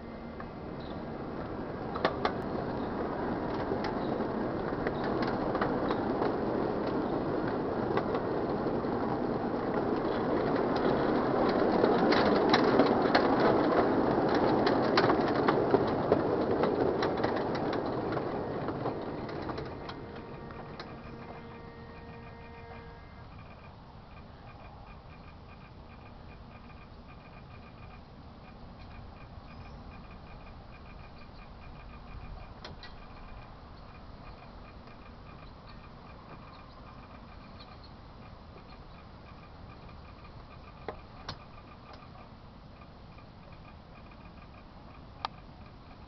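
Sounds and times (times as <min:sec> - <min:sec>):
miniature train rolling on track: 0:00.0 - 0:46.0.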